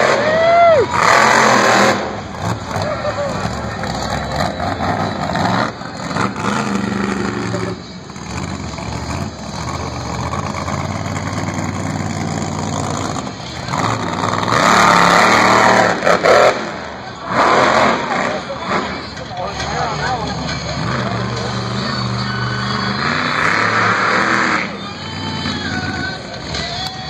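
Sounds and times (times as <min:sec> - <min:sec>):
monster truck engine revving: 0:00.0 - 0:26.8.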